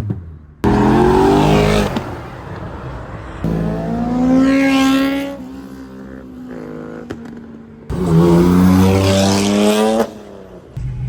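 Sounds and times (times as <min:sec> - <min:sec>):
car engines revving: 0:00.6 - 0:10.8.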